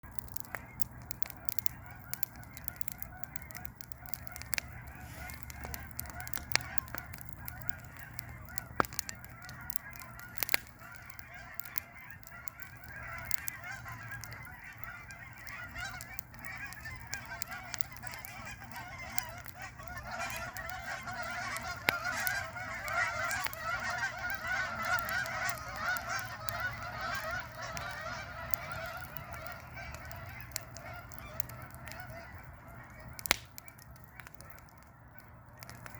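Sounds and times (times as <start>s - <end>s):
fire crackling and popping: 0.0s - 35.9s
geese honking: 0.2s - 35.9s.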